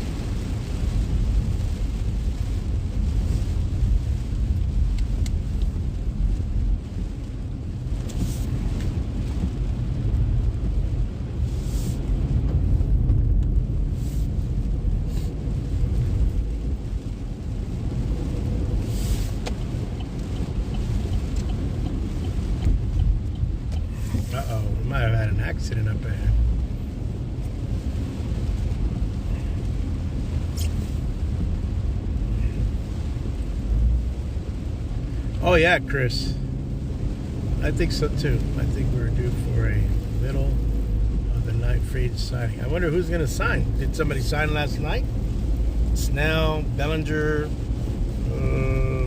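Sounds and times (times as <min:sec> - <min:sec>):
rain on car: 0:00.0 - 0:49.0
tyres and engine rumbling: 0:00.0 - 0:49.0.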